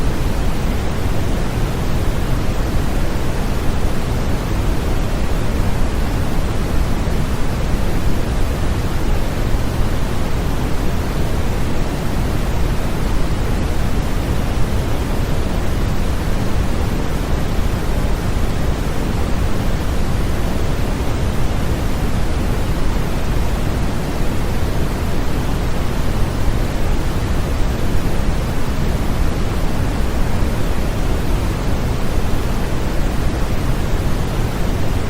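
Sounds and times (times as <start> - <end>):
white noise hiss: 0.0 - 35.0.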